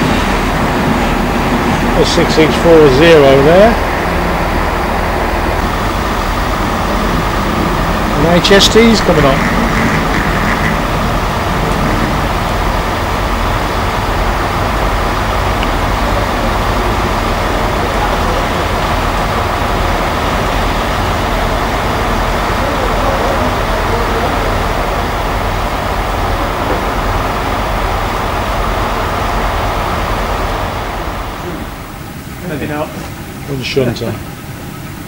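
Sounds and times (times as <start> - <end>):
passenger train running: 0.0 - 35.0.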